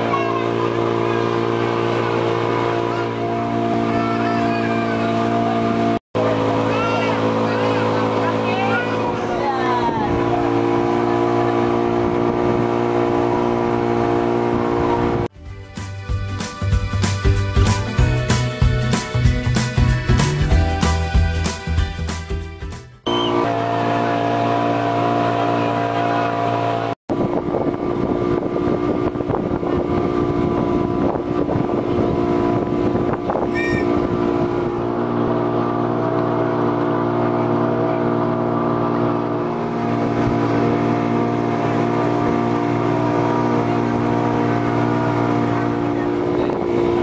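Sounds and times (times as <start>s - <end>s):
water rushing along hull: 0.0s - 15.3s, 23.1s - 47.0s
motorboat engine drone: 0.0s - 15.4s, 23.0s - 47.0s.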